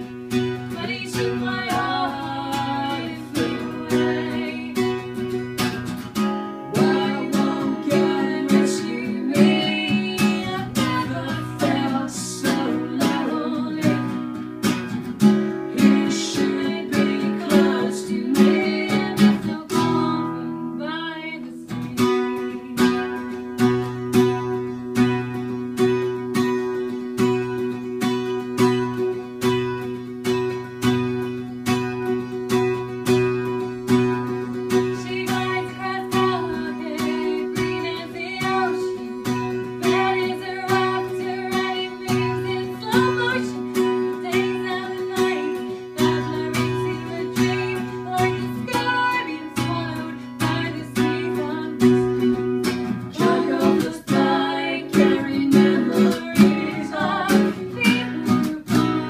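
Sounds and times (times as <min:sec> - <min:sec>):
woman singing: 0:00.0 - 0:14.8, 0:15.4 - 0:23.6, 0:33.9 - 0:59.0
acoustic guitar strumming: 0:00.0 - 0:59.0.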